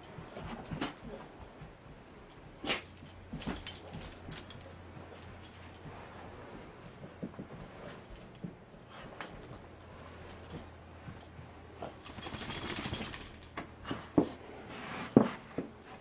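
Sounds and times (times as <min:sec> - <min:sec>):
bedding rustling: 0:00.0 - 0:16.0
dog scuffling on carpet: 0:00.1 - 0:16.0.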